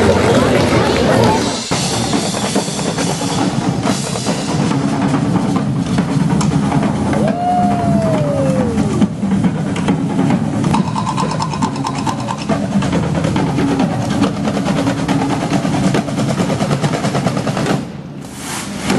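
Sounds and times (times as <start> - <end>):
loud rapid drumming: 0.0 - 18.1.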